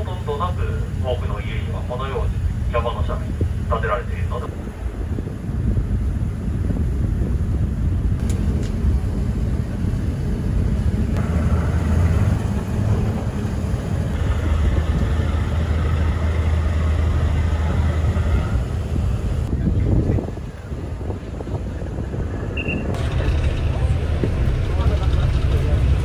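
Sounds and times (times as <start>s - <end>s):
ship engine rumbling: 0.0s - 26.0s.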